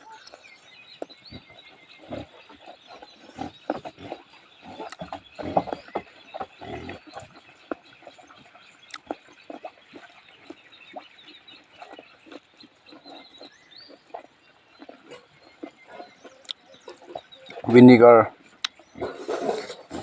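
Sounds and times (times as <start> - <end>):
pigs grunting: 1.1 - 20.0.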